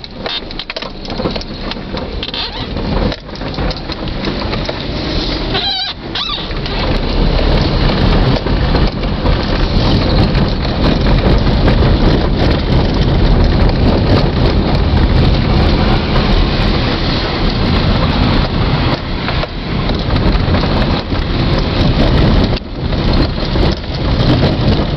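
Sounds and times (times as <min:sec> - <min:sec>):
car engine and tyres rumbling: 0:00.0 - 0:24.9
rattling and crunching on gravel: 0:00.0 - 0:24.9.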